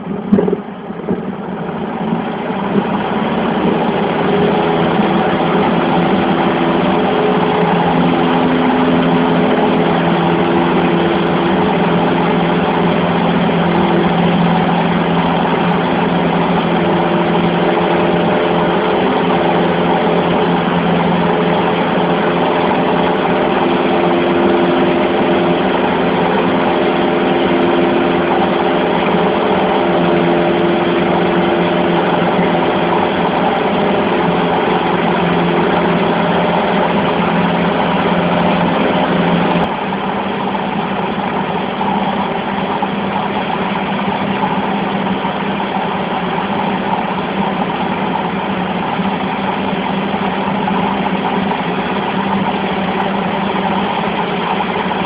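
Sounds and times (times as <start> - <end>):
airplane engine and propeller: 0.0 - 55.0.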